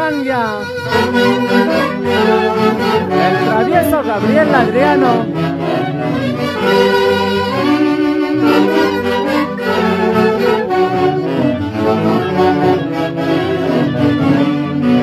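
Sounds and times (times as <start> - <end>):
live dance band playing: 0.0 - 15.0
saxophone melody: 0.0 - 15.0.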